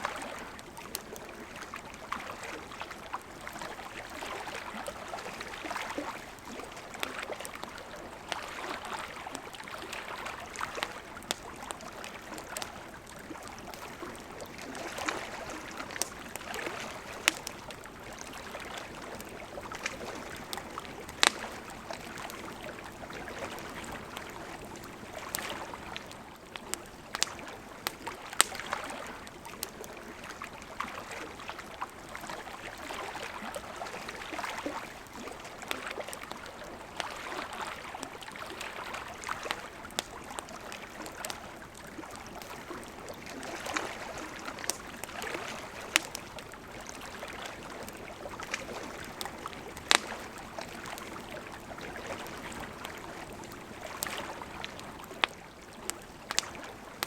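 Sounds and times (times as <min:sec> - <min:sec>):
campfire crackling and popping: 0:00.0 - 0:57.0
lake water lapping: 0:00.0 - 0:57.0.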